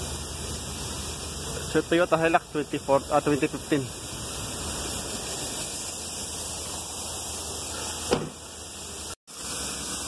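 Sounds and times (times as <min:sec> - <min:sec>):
air conditioning hiss: 0:00.0 - 0:10.0.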